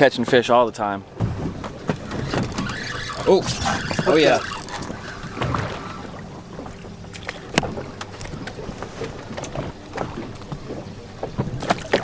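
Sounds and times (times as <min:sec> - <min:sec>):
open water background: 0:00.0 - 0:12.0
wind on microphone: 0:01.1 - 0:12.0.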